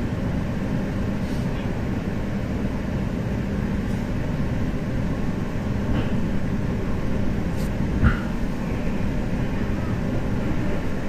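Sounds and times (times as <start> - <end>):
train hum: 0.0 - 11.0
train wheels rumbling on rail: 0.0 - 11.0.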